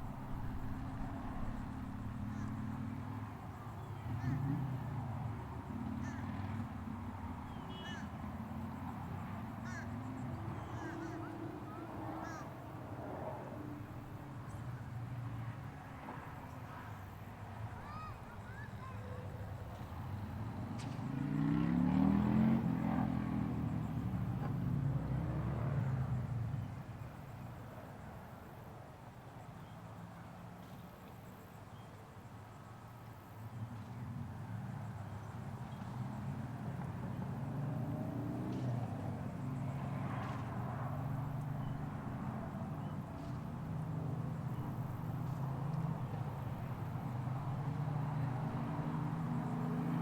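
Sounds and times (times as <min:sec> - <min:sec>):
vehicle engine passing by: 0:00.0 - 0:27.6, 0:33.5 - 0:50.0.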